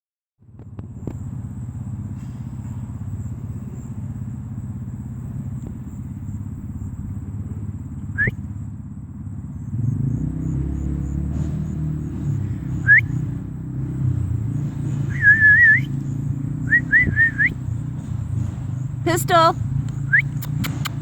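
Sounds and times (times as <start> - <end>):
vehicle engine droning: 0.4 - 21.0.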